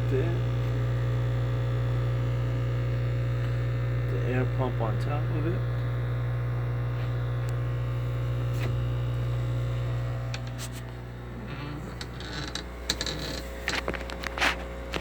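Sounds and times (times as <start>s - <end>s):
aquarium air pump humming: 0.0s - 15.0s.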